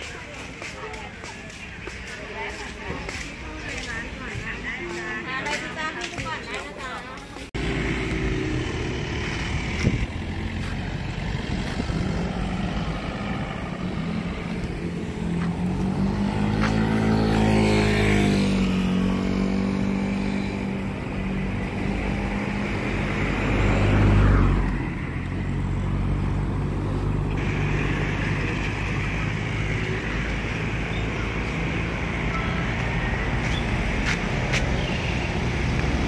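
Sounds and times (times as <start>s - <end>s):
vehicles passing by: 0.0s - 36.0s.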